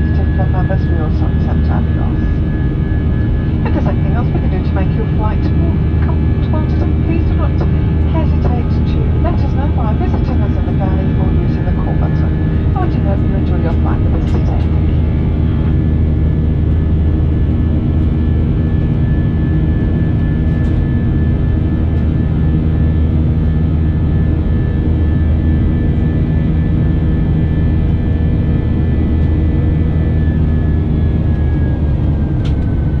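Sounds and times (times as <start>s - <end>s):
jet engine drone in cabin: 0.0s - 33.0s.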